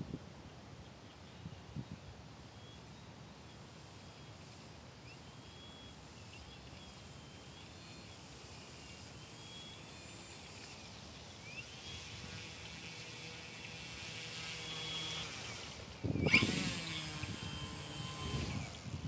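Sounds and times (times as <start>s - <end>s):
small electric motor whine: 1.1s - 19.0s.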